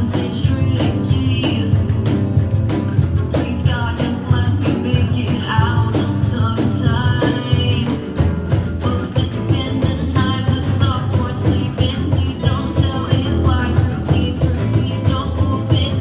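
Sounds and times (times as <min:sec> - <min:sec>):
acoustic rock band playing: 0:00.0 - 0:16.0
bass line: 0:00.0 - 0:16.0.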